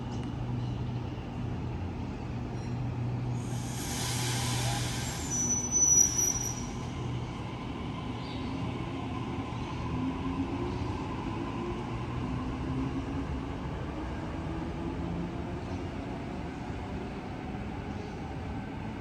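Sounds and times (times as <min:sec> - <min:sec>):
train wheels rumbling on rails: 0:00.2 - 0:19.0.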